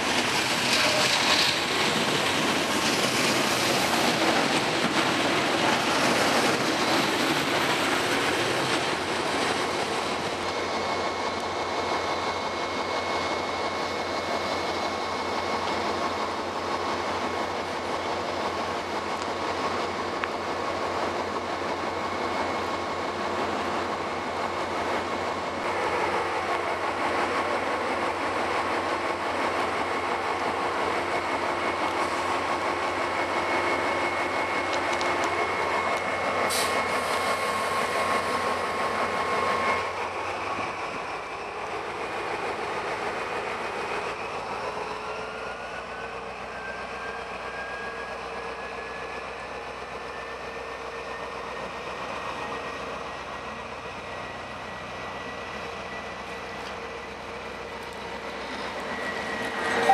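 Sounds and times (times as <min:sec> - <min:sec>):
diesel locomotive moving off: 0:00.0 - 0:59.9
train running din: 0:00.0 - 0:59.9
steady whine: 0:04.0 - 0:59.9.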